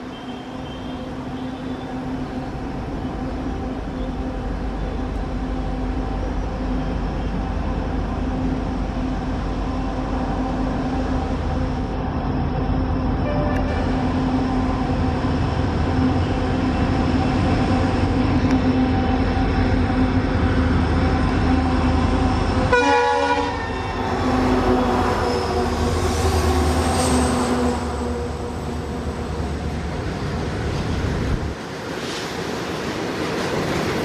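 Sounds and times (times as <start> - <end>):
diesel locomotive engines: 0.0 - 34.0.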